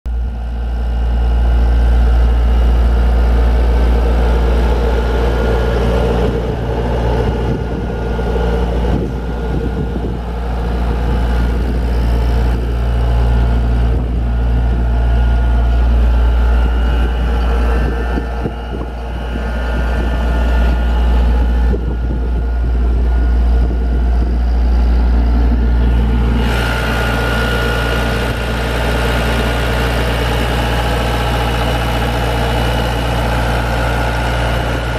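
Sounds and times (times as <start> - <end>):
diesel engine droning: 0.1 - 34.9
high whine: 0.1 - 34.9.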